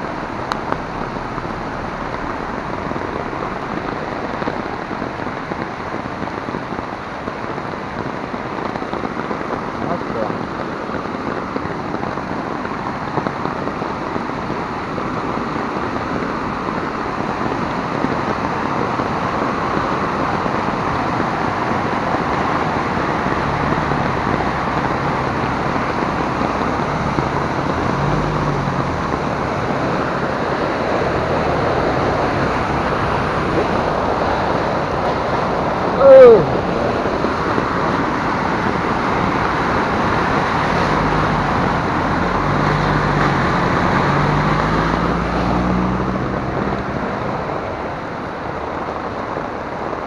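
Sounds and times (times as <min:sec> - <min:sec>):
floodwater rushing: 0:00.0 - 0:50.0.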